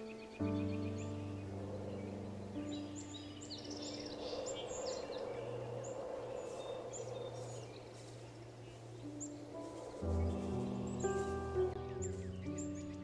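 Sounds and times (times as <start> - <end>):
faint low music drone: 0.0 - 13.0
small birds chirping: 0.0 - 13.0
steady rushing ambient noise: 0.0 - 13.0.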